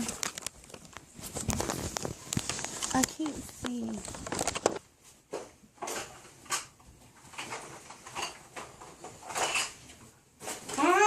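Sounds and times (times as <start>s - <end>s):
rummaging through a drawer: 0.0s - 10.9s.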